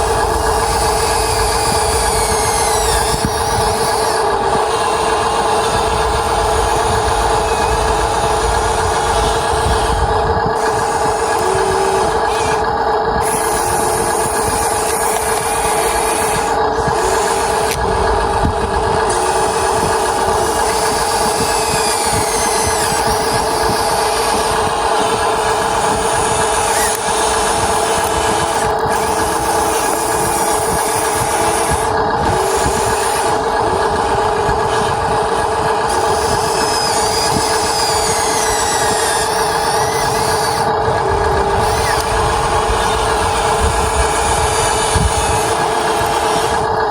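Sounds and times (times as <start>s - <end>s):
motor whines: 0.0s - 46.9s
toy excavator mechanical hum: 0.0s - 46.9s.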